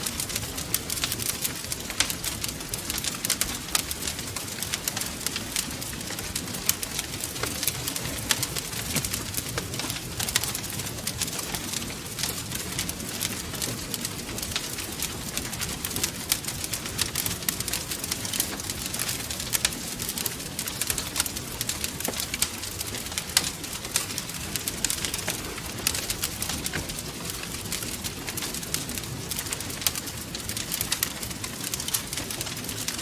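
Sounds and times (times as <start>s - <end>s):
low rumble of burning: 0.0s - 33.0s
wood fire crackling: 0.0s - 33.0s.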